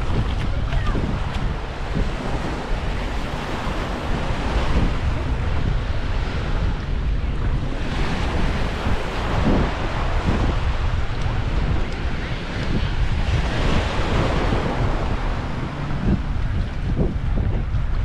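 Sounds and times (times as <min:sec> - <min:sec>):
small waves washing onto sand: 0:00.0 - 0:18.0
wind buffeting microphone: 0:00.0 - 0:18.0.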